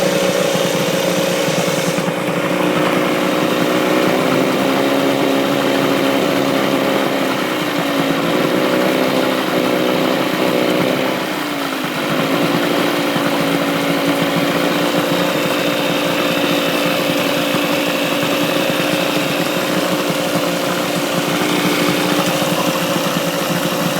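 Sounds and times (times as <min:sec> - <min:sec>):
outboard motor running: 0:00.0 - 0:23.9.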